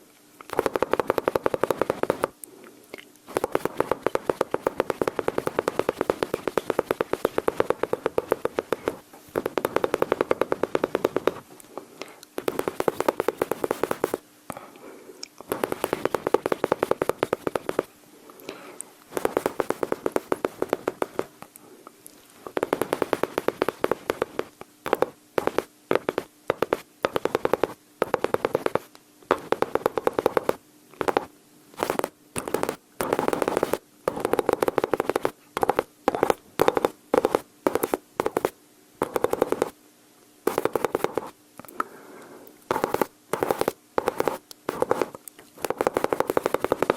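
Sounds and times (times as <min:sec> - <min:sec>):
mouth imitating machine-gun fire: 0:00.5 - 0:02.3, 0:03.3 - 0:11.4, 0:12.4 - 0:14.2, 0:15.5 - 0:17.9, 0:19.1 - 0:21.3, 0:22.6 - 0:39.7, 0:42.7 - 0:46.9.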